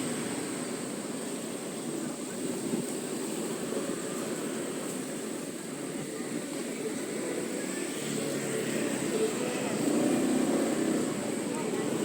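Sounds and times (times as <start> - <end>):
scooter engine and road rumble: 0.0 - 12.0.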